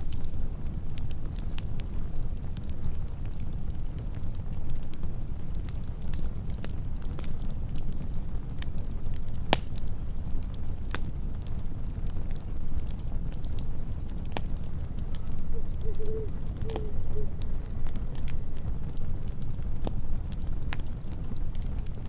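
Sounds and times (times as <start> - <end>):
campfire rumble: 0.0 - 22.0
crickets chirping: 0.0 - 22.0
fire crackling and popping: 0.0 - 22.0.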